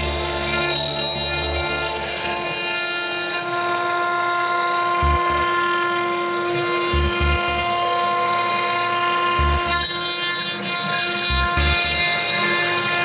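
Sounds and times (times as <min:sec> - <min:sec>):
cnc router spindle whining: 0:00.0 - 0:13.0.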